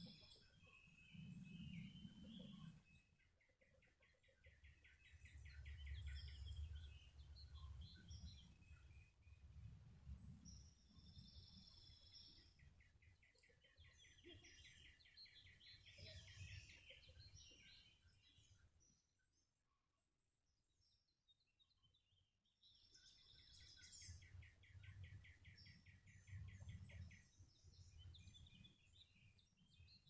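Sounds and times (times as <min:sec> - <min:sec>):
songbirds singing: 0:00.0 - 0:19.0, 0:20.8 - 0:30.0.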